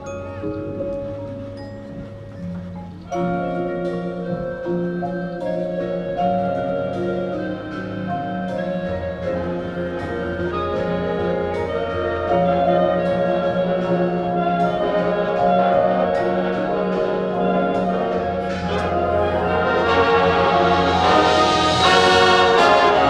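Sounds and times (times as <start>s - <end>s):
brass chords: 0.0s - 23.0s
percussion hits: 0.0s - 23.0s.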